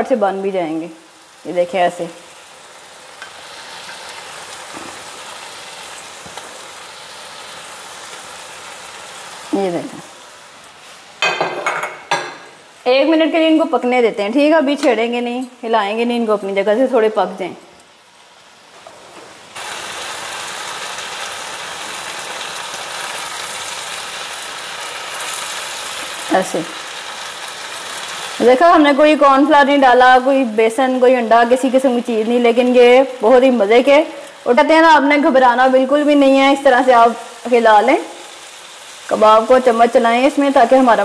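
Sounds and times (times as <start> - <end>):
gravy sizzling in a frying pan: 0.0 - 13.2, 13.8 - 41.0.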